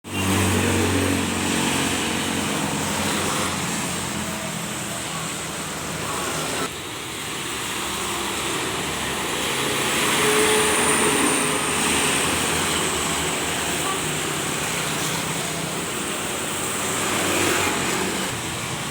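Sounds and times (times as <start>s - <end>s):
road traffic noise: 0.0s - 18.9s.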